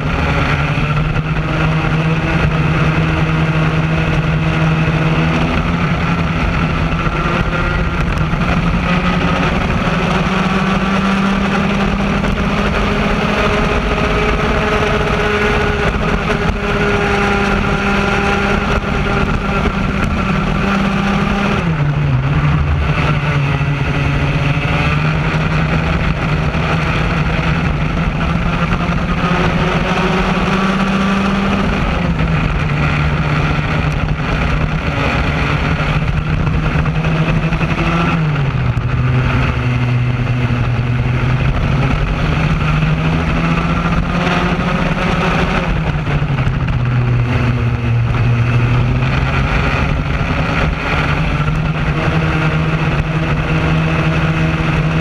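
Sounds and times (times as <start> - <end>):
kart engine at full revs: 0.0 - 55.0
steady rush of noise: 0.0 - 55.0.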